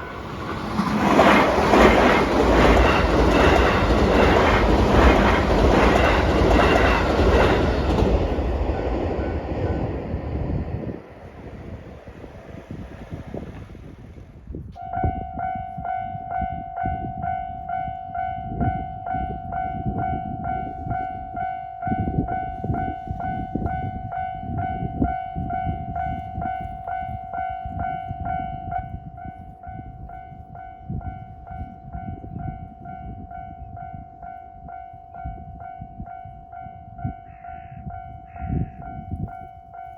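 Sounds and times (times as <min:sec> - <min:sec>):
train rumbling past: 0:00.0 - 0:34.4.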